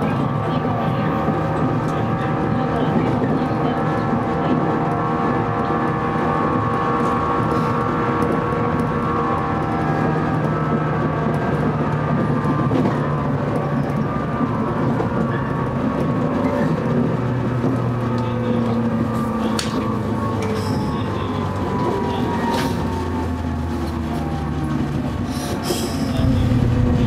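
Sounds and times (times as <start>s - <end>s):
electric train whine: 0.0s - 27.0s
wheel-on-rail noise: 0.0s - 27.0s.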